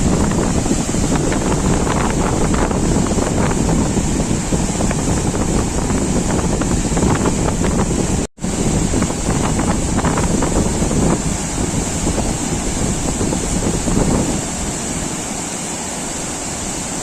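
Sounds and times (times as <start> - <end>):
flood water rushing: 0.0 - 17.0
wind buffeting microphone: 0.0 - 17.0.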